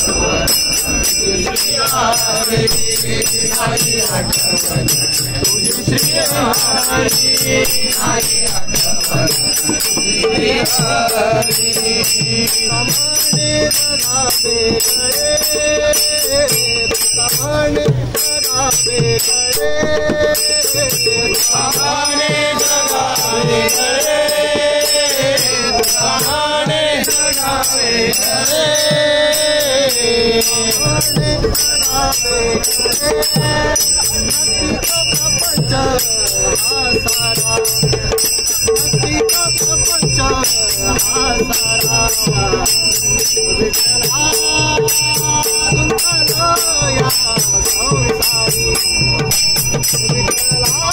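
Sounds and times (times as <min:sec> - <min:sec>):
hand cymbals clinking: 0:00.0 - 0:50.9
men singing call and response: 0:00.0 - 0:50.9.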